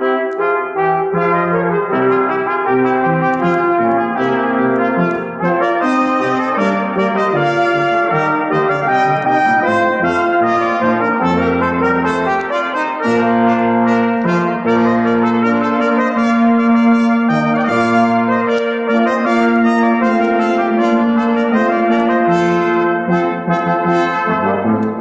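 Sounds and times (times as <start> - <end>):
brass quintet playing: 0.0 - 25.0.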